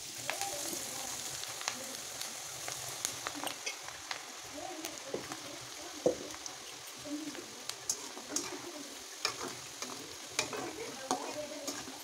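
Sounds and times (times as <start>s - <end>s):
oil sizzling with crackles and pops: 0.0s - 12.0s.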